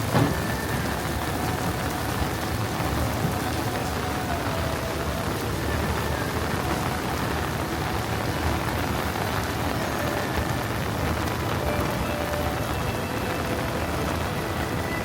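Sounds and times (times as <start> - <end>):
heavy rain on street: 0.0 - 15.0.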